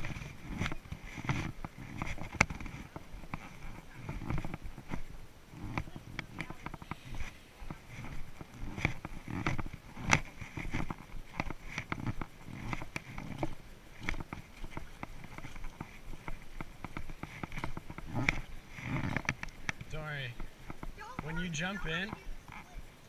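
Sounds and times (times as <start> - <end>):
footsteps on muddy trail: 0.0 - 23.0.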